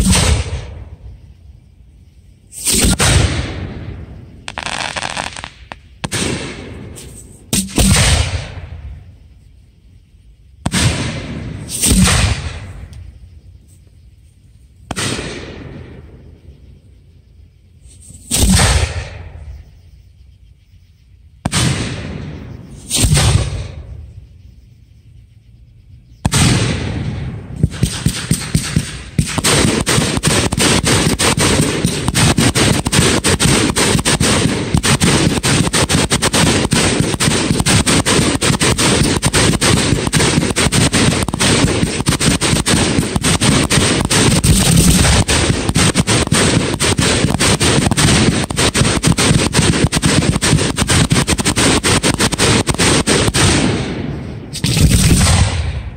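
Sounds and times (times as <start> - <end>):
fireworks booming: 0.0 - 1.7, 2.5 - 9.3, 10.6 - 13.6, 14.8 - 16.6, 17.8 - 19.8, 21.4 - 24.3, 26.2 - 55.9.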